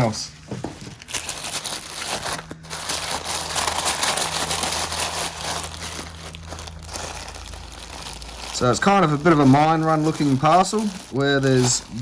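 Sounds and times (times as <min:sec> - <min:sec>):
steady low hum: 0:00.0 - 0:12.0
bag crinkling and rustling: 0:00.7 - 0:12.0.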